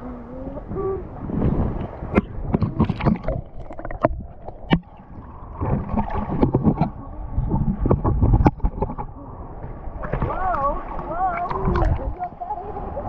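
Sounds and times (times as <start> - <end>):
low rumble: 0.0 - 13.0
water sloshing and splashing: 1.2 - 13.0.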